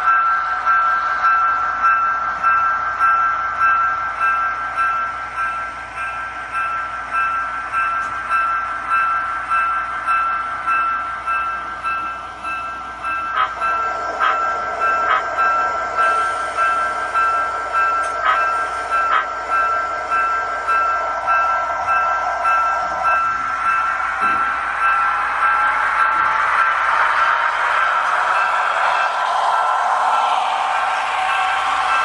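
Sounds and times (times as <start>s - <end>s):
diesel locomotive sound from speakers: 0.0s - 32.0s.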